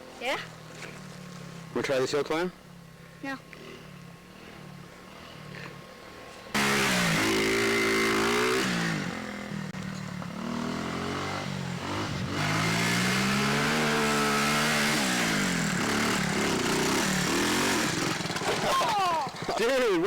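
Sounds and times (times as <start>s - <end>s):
dirt bike engine revving: 3.2s - 20.0s.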